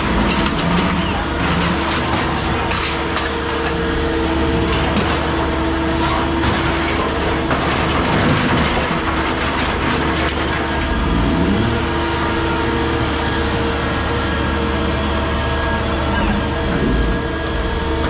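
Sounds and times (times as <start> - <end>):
heavy machinery humming: 0.0 - 18.0.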